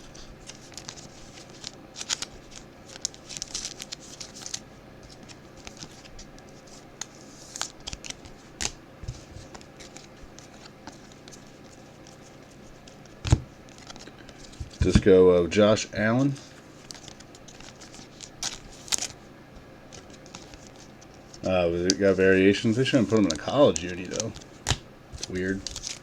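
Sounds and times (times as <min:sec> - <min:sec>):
trading cards rustling: 0:00.4 - 0:19.2, 0:19.9 - 0:26.0.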